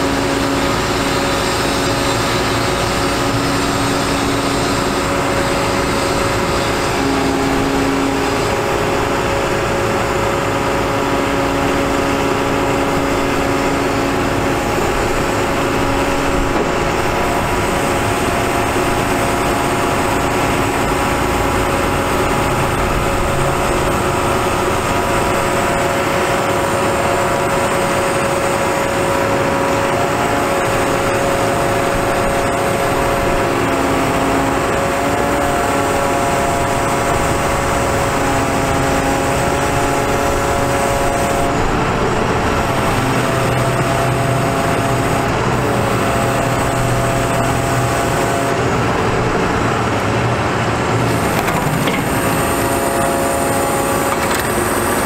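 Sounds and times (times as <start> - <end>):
diesel engine under load: 0.0 - 55.0
hydraulic crane whine: 0.0 - 55.0.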